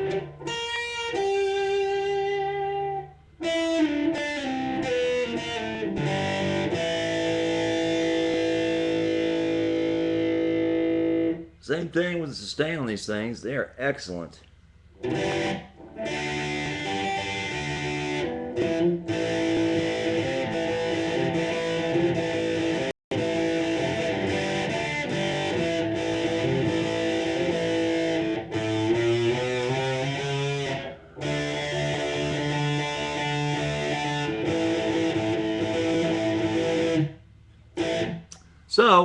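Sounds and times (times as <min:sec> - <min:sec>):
distorted electric guitar: 0:00.0 - 0:11.9, 0:14.9 - 0:38.7.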